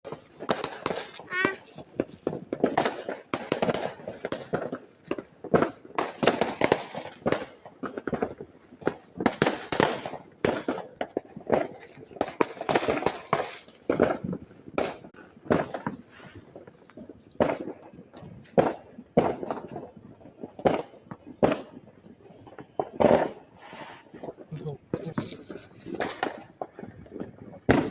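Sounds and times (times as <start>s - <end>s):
fireworks and firecrackers banging: 0.0s - 27.9s.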